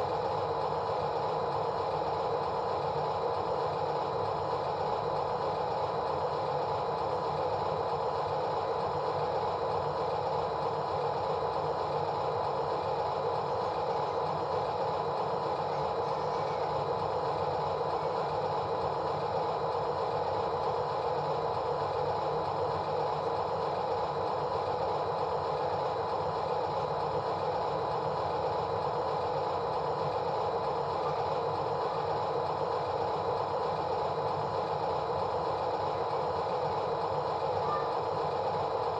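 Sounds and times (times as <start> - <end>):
steady mechanical running sound: 0.0 - 38.9.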